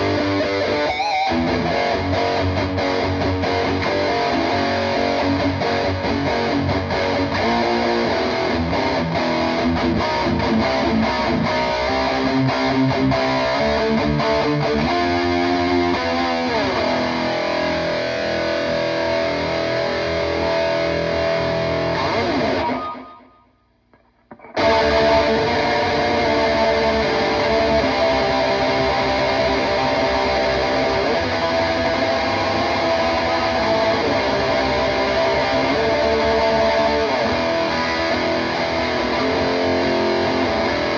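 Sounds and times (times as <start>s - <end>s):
distorted electric guitar riffing: 0.0s - 23.4s, 24.2s - 40.9s.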